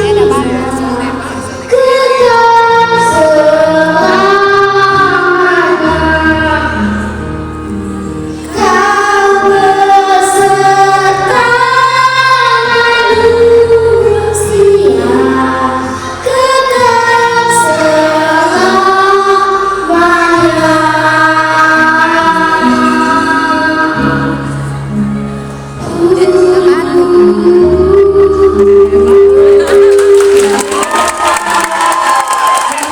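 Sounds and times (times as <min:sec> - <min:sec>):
person singing with vibrato: 0:00.0 - 0:07.2, 0:08.3 - 0:24.8, 0:25.8 - 0:31.0.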